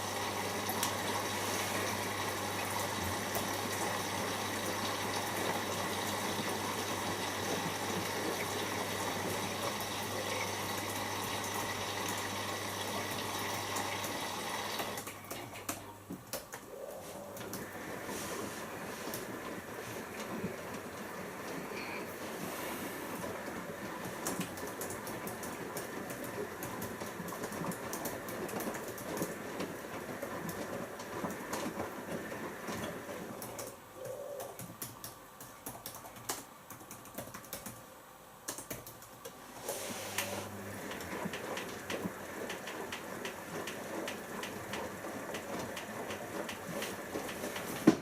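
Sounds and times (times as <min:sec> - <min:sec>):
washing machine sloshing churn: 0:00.0 - 0:15.1, 0:17.1 - 0:33.7, 0:39.4 - 0:48.0.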